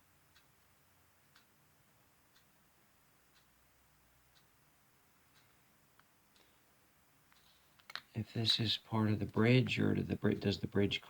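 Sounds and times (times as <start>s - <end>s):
faint clock ticking: 0.0s - 11.0s.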